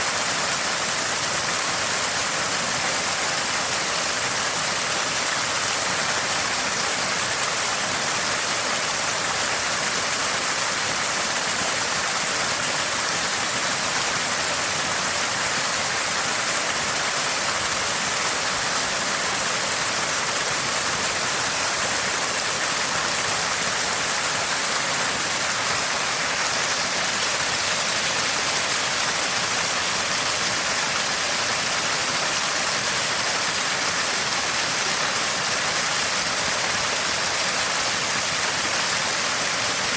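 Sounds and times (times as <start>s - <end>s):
spring water gushing and gurgling: 0.0s - 39.9s.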